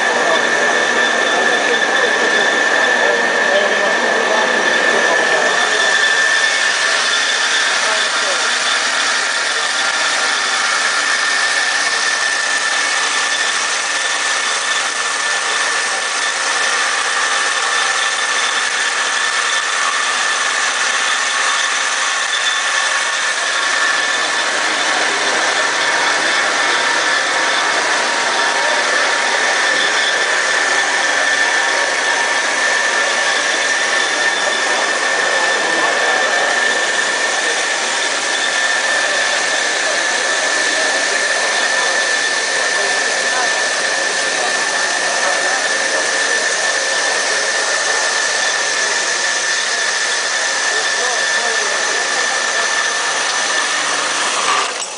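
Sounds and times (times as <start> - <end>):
band saw cutting metal tubes: 0.0 - 54.9.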